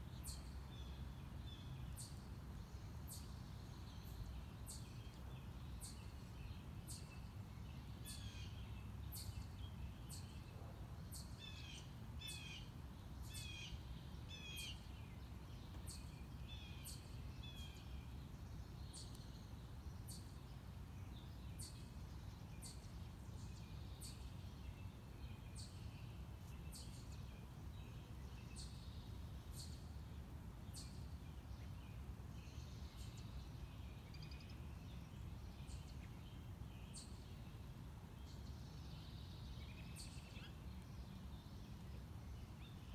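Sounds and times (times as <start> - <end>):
bird singing quavering notes: 0.0 - 42.9.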